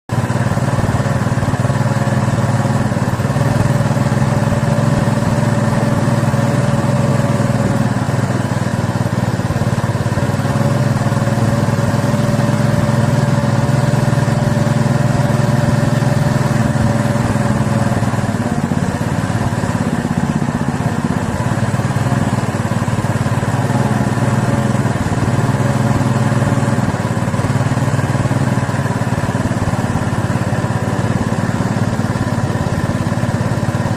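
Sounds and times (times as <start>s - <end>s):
small engine running: 0.1s - 33.9s.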